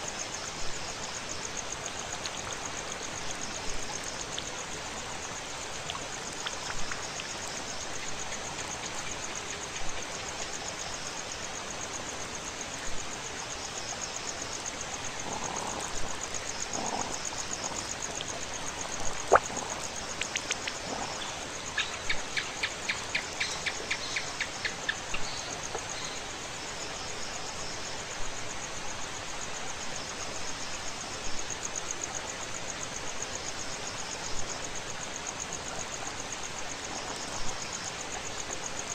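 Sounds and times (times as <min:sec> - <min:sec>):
background hiss: 0:00.0 - 0:38.9
crickets chirring: 0:00.0 - 0:38.9.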